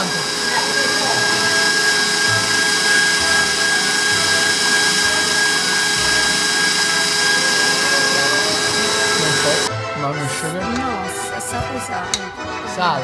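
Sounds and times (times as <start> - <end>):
stand mixer motor whine: 0.0 - 12.7.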